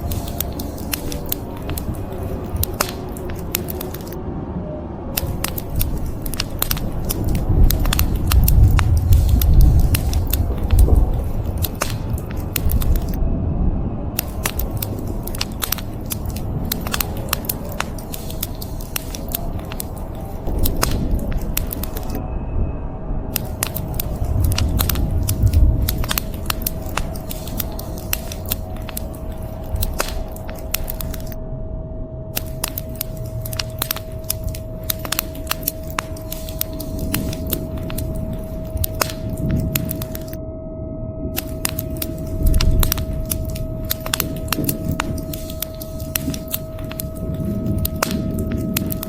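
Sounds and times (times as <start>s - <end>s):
wood fire crackling and popping: 0.0s - 4.2s, 5.2s - 13.2s, 14.2s - 22.2s, 23.3s - 31.4s, 32.4s - 40.4s, 41.4s - 49.0s
faint steady hum: 0.0s - 49.0s.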